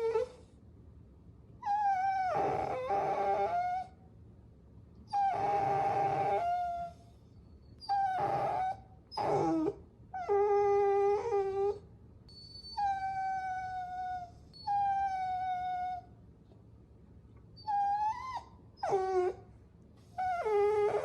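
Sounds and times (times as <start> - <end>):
puppy whining: 0.0 - 0.5, 1.6 - 4.0, 5.1 - 16.2, 17.5 - 21.0.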